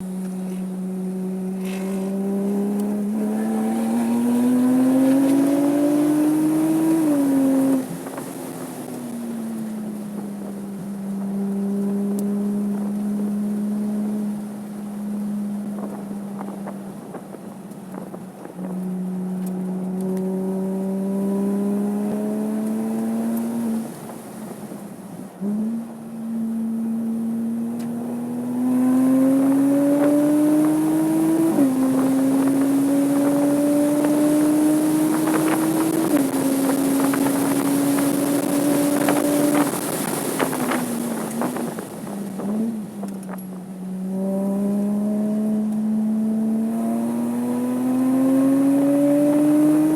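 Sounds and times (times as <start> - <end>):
car engine revving: 0.0 - 24.4, 25.3 - 49.9.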